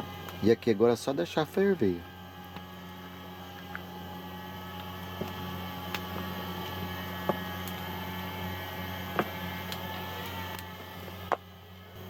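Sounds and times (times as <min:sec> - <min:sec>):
wood fire crackling: 0:00.0 - 0:11.4
low mechanical hum: 0:00.0 - 0:12.0.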